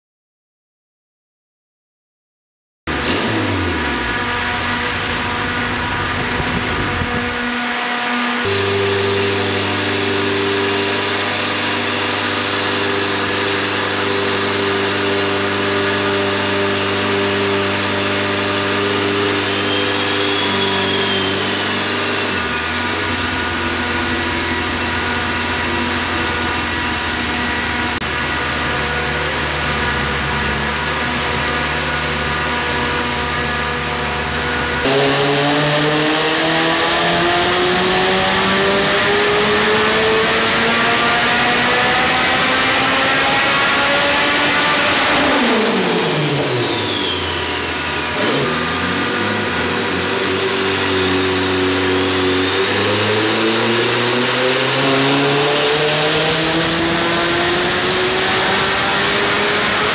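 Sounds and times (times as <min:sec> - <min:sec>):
turbocharged engine on a dyno: 0:02.9 - 0:59.9.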